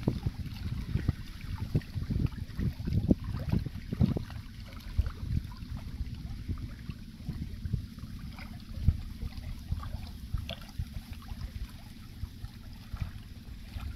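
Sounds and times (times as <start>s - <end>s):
waves lapping on rocky shore: 0.0s - 13.9s
wind buffeting microphone: 0.0s - 13.9s.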